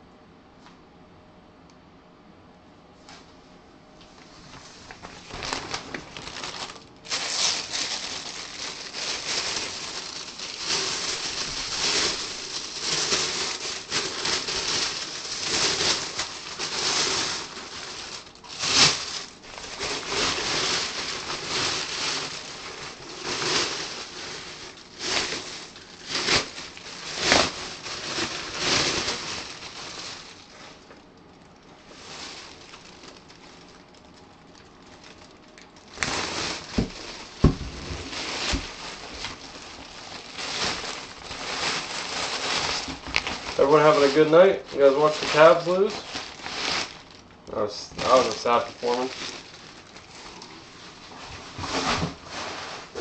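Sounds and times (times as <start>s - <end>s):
paper and plastic crinkling: 4.2s - 53.0s.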